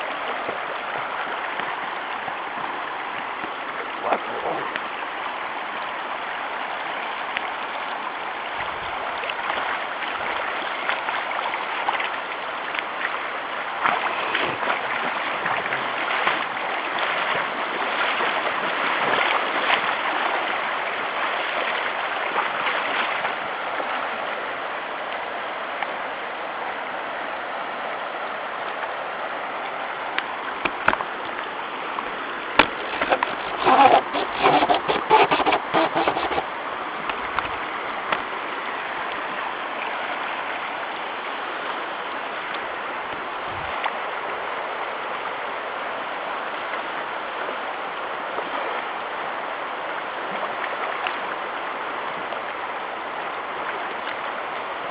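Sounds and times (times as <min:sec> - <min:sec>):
river current rushing: 0:00.0 - 0:54.9
water splashes: 0:00.0 - 0:54.9.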